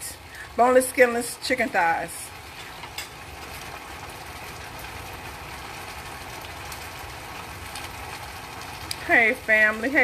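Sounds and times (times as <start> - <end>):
chicken sizzling in a skillet: 0.0 - 10.0.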